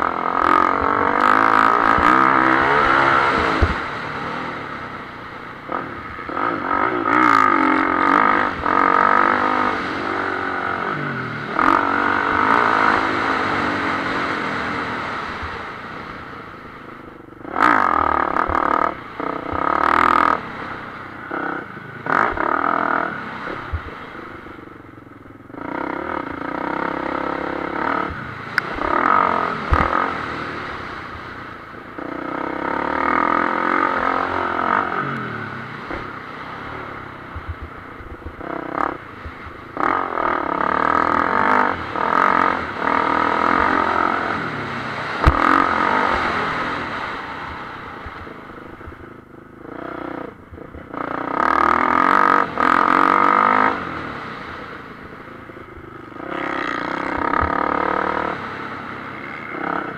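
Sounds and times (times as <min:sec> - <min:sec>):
motocross engine revving: 0:00.0 - 0:15.8, 0:17.2 - 0:24.2, 0:25.5 - 0:59.9.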